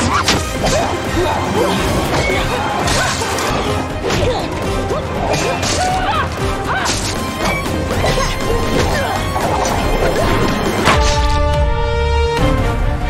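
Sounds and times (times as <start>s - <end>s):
action music: 0.0s - 13.0s.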